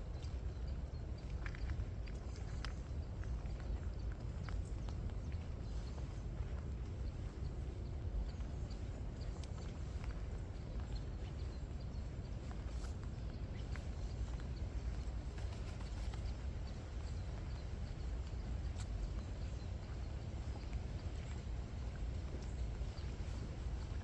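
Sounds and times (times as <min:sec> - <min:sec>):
footsteps on wet path: 0:00.0 - 0:24.0.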